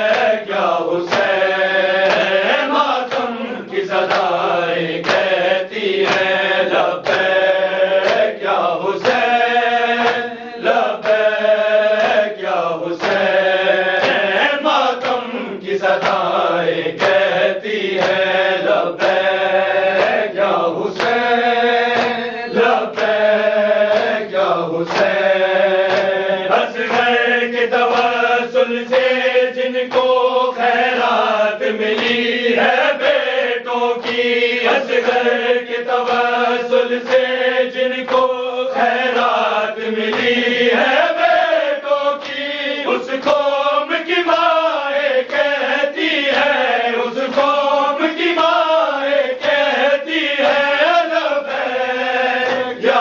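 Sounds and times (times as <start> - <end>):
hands slapping chest: 0.0 - 51.7, 52.3 - 53.0
men chanting in unison: 0.0 - 53.0.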